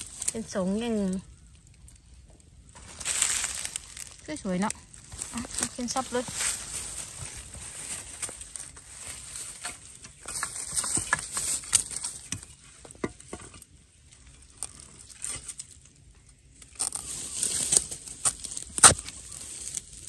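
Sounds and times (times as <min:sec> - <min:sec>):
dry leaves rustling and crackling: 0:00.0 - 0:20.0.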